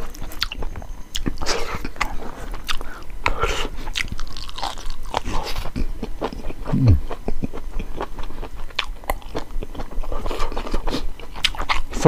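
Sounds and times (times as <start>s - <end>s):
chewing with wet clicks and crunches: 0.0s - 12.0s.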